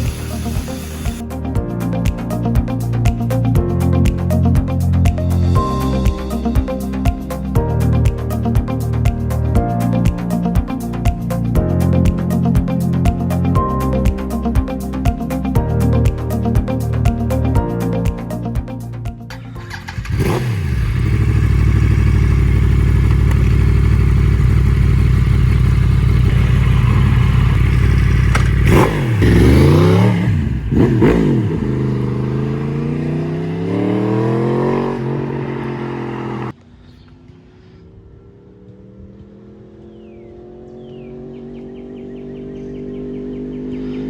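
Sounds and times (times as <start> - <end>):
motorcycle engine idling and revving: 0.0 - 11.2, 19.3 - 44.0.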